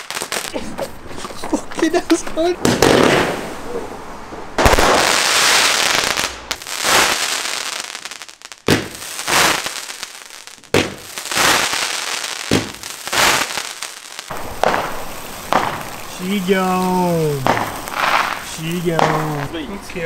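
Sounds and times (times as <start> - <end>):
fireworks bangs and bursts: 0.0 - 0.6, 1.3 - 3.6, 4.6 - 19.7
fireworks fizzing hiss: 0.0 - 3.9, 4.6 - 20.0.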